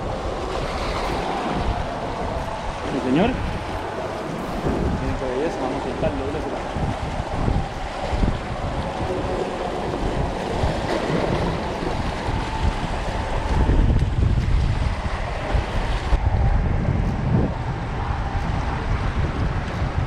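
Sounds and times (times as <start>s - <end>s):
small waves splashing on rocks: 0.0s - 16.2s
wind buffeting microphone: 0.0s - 20.0s.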